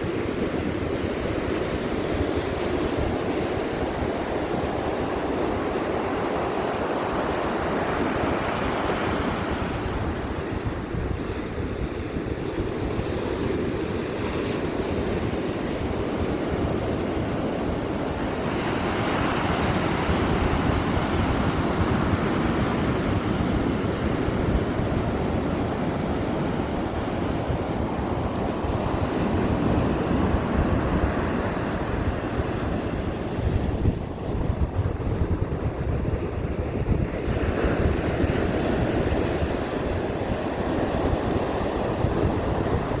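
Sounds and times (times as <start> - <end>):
ocean surf washing ashore: 0.0 - 43.0
wind on microphone: 0.0 - 43.0.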